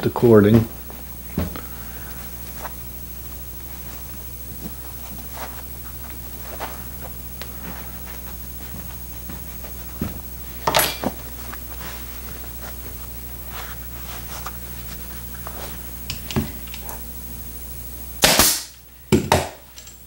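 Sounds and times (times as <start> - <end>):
steady low hum: 0.0 - 20.0
hands rustling upholstery fabric: 0.8 - 17.1.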